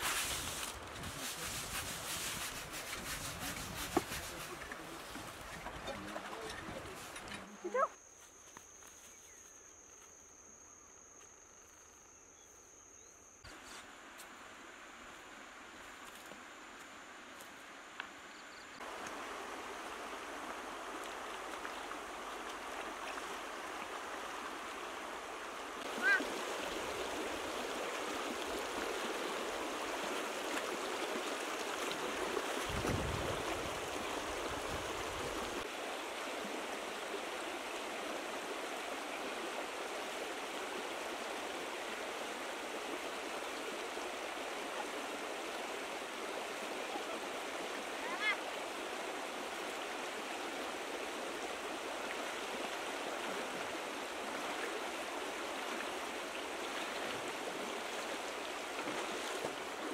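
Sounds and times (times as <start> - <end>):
river rushing over stones: 0.0 - 7.3, 18.8 - 59.9.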